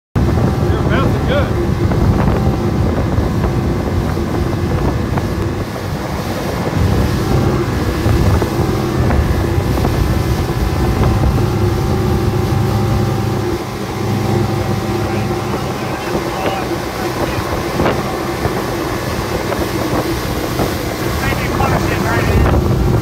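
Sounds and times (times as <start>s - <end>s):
boat wake rushing: 0.2s - 23.0s
outboard motor running: 0.2s - 23.0s
wind buffeting microphone: 0.2s - 23.0s.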